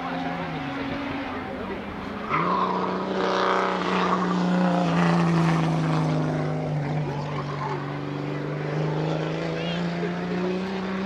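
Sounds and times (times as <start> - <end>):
race car engines at high revs: 0.0 - 11.0
race car passing: 0.0 - 11.0.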